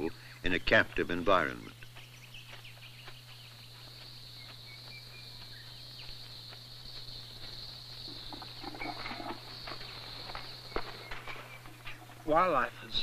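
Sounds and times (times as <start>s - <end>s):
bird chirps: 0.0s - 13.0s
insects droning: 0.0s - 13.0s.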